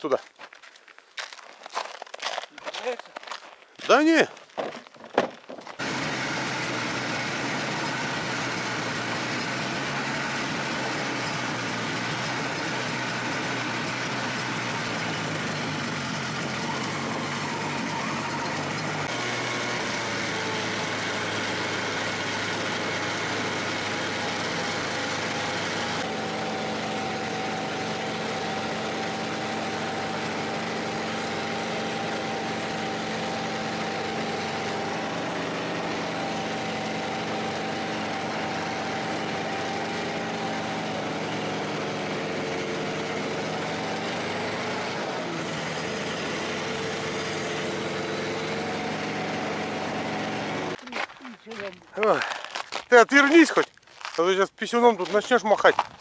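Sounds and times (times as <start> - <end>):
snowmobile engine running: 5.8 - 55.9.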